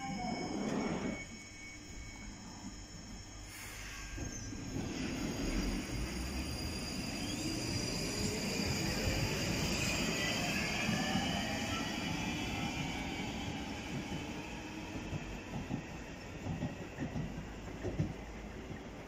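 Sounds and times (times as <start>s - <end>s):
traction motor whine rising: 0.0s - 15.5s
train rumble: 2.4s - 19.0s.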